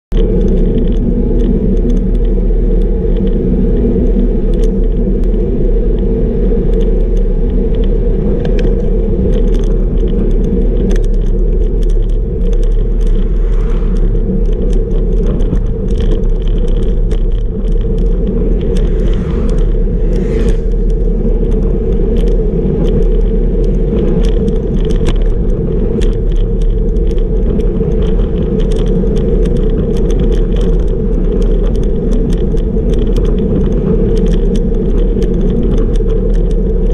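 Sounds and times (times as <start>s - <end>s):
tyre noise on asphalt: 0.1s - 36.9s
wind buffeting microphone: 0.1s - 36.9s
bicycle clicks and rattles: 0.2s - 19.8s, 20.8s - 36.9s.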